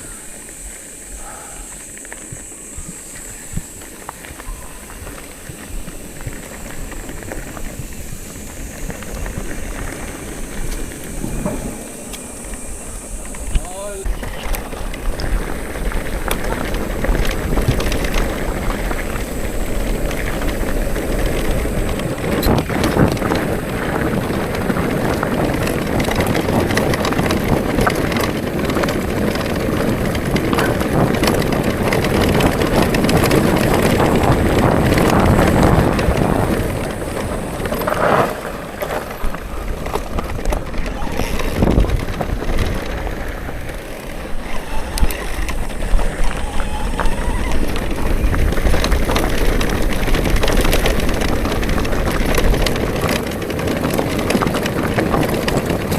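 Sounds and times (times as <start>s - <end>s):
bicycle tyres rattling on road: 0.0s - 55.9s
wind rushing over microphone: 0.0s - 55.9s.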